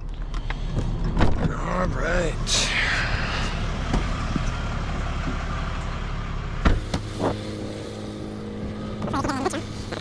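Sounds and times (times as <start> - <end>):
road rumble: 0.0 - 10.0
truck engine: 0.0 - 10.0.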